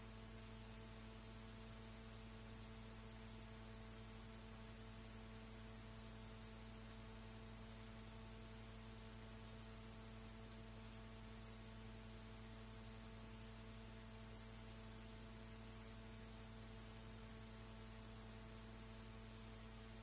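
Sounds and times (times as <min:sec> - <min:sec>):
low constant hum: 0:00.0 - 0:20.0
tape hiss: 0:00.0 - 0:20.0.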